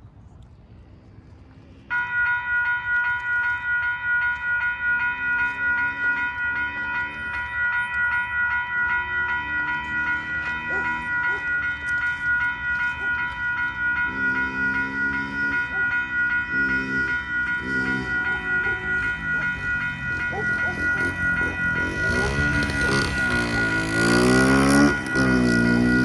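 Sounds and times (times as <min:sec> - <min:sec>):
railroad crossing bell ringing: 0:00.8 - 0:26.0.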